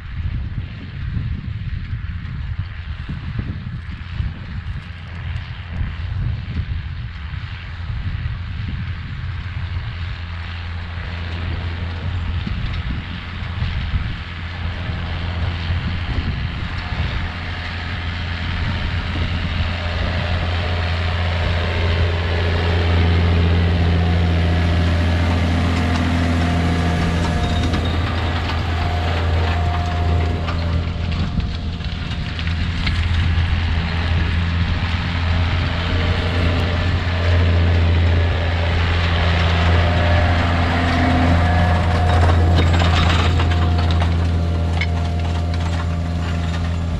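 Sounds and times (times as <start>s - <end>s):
tractor diesel engine droning: 0.0s - 46.9s.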